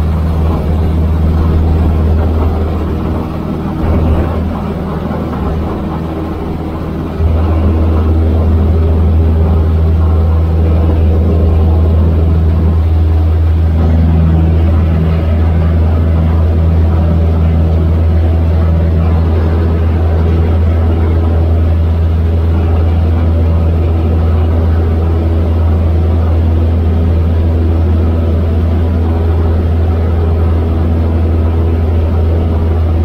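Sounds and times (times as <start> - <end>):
light aircraft engine and propeller: 0.0 - 33.0.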